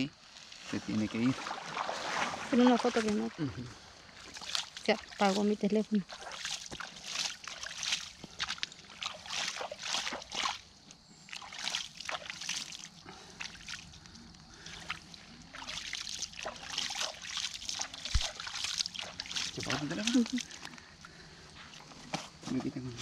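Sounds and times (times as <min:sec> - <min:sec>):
water sloshing and splashing: 0:00.0 - 0:22.6.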